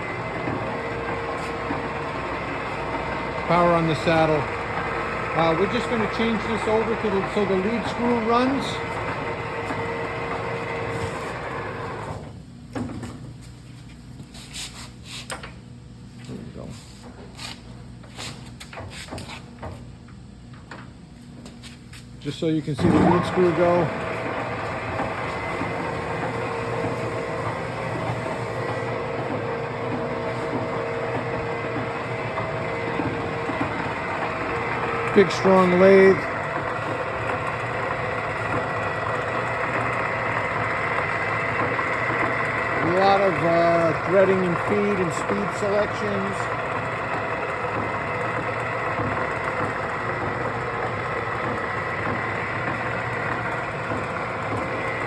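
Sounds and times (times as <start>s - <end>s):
lathe whirring: 0.0s - 12.4s, 22.3s - 55.0s.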